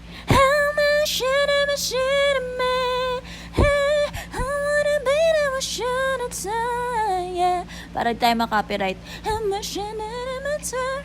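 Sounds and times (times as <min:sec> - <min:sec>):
woman singing pop song: 0:00.0 - 0:11.0.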